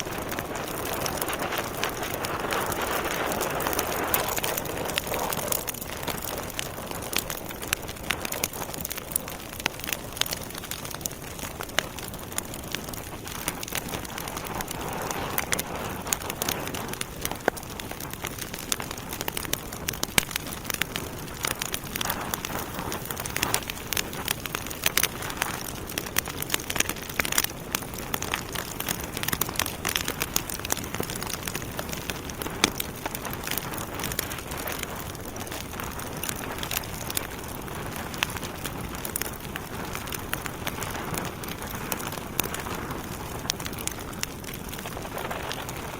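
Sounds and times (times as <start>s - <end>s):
fire crackling and popping: 0.0s - 45.9s
rush of flame: 0.0s - 45.9s.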